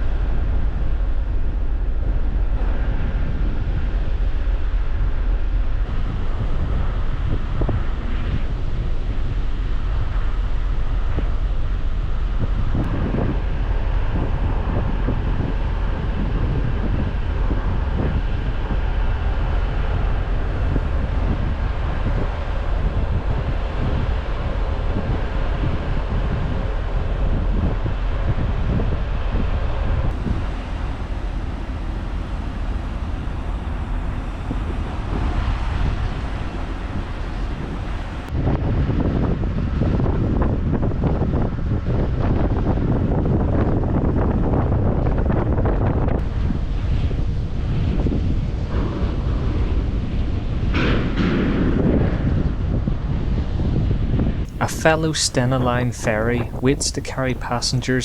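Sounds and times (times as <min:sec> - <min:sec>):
steady low rumble: 0:00.0 - 0:53.1, 0:54.4 - 0:58.0
wind on microphone: 0:00.0 - 0:58.0.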